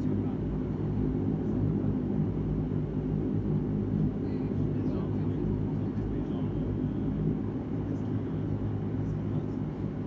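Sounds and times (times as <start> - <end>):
turboprop engine drone in cabin: 0.0 - 10.0.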